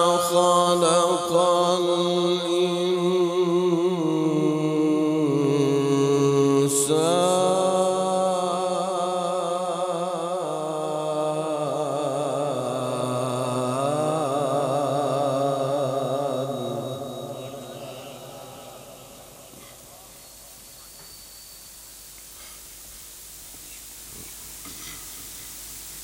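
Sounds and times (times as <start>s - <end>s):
man chanting melodically: 0.0s - 21.4s.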